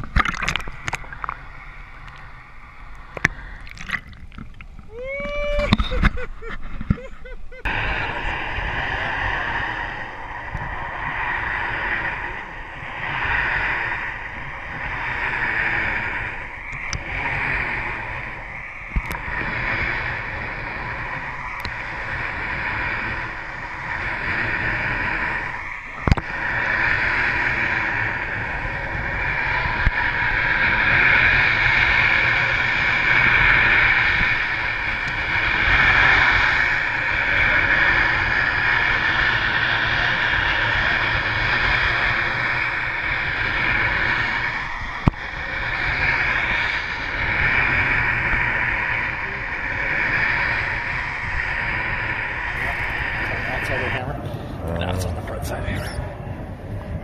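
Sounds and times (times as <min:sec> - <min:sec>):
boat engine hum: 0:00.0 - 0:57.0
muffled underwater water noise: 0:00.0 - 0:57.0.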